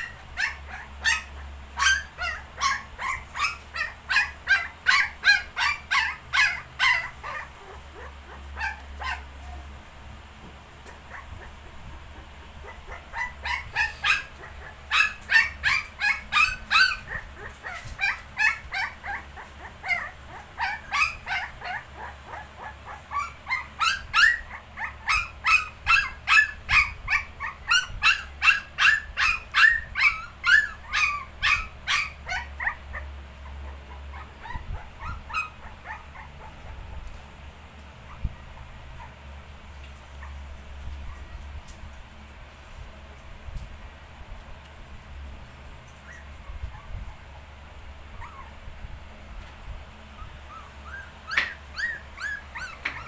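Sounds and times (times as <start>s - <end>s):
puppies squeaking and whimpering: 0.0s - 9.8s, 10.8s - 37.2s, 38.0s - 41.5s, 45.9s - 47.2s, 48.1s - 48.7s, 50.1s - 53.0s.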